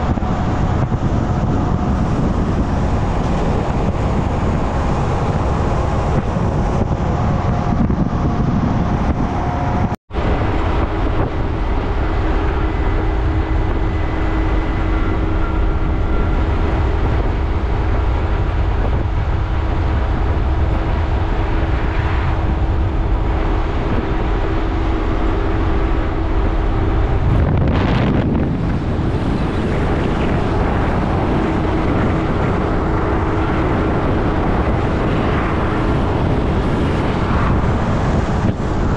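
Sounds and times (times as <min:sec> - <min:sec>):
car engine and road noise: 0:00.0 - 0:38.9
low steady hum: 0:00.0 - 0:38.9
wind rushing over microphone: 0:00.0 - 0:38.9.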